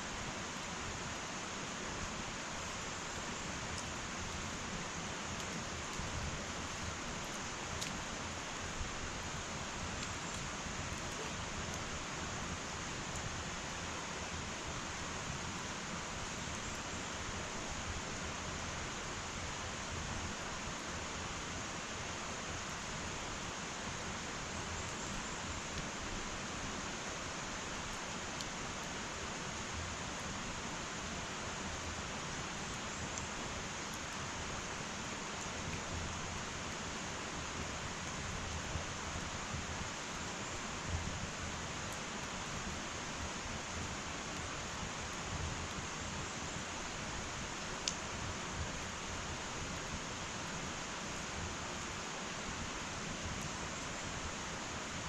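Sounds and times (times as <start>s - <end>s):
fire crackles: 0.0s - 55.0s
wood fire hissing: 0.0s - 55.0s.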